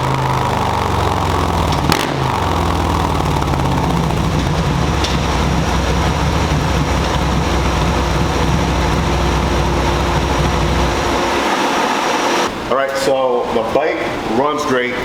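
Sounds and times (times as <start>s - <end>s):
motorcycle engine rumbling: 0.0s - 12.5s.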